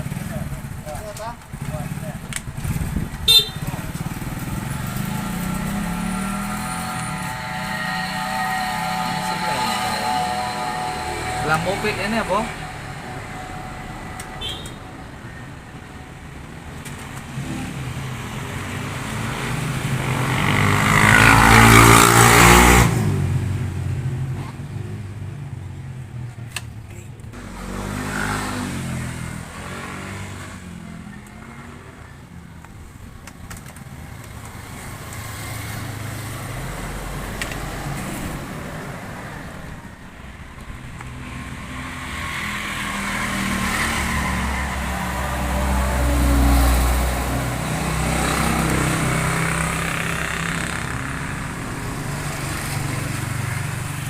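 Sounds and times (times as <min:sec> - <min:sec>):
motor vehicle engines: 0:00.0 - 0:54.0.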